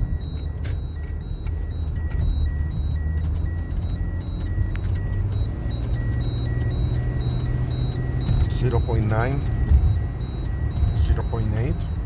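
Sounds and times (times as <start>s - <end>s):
car road and engine rumble: 0.0s - 12.0s
high electronic beeping: 0.0s - 12.0s.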